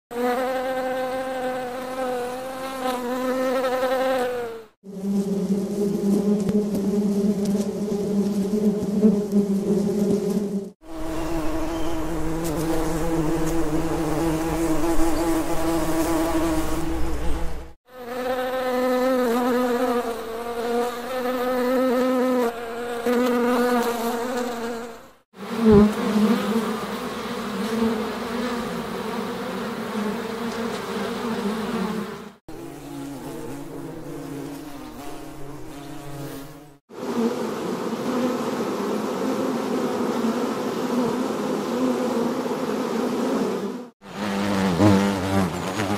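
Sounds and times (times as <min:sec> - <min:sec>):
bees buzzing: 0:00.1 - 0:45.9.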